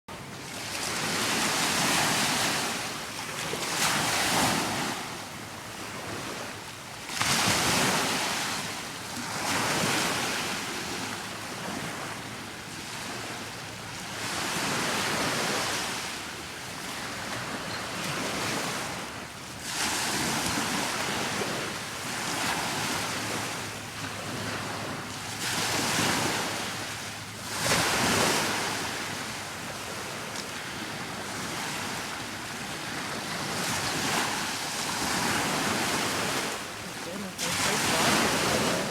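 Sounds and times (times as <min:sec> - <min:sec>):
sea waves washing in: 0:00.3 - 0:17.4, 0:18.0 - 0:38.9.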